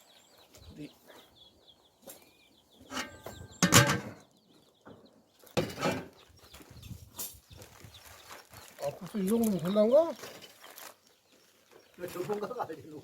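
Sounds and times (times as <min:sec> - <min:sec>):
chicks peeping: 0:00.0 - 0:03.6, 0:04.2 - 0:13.0.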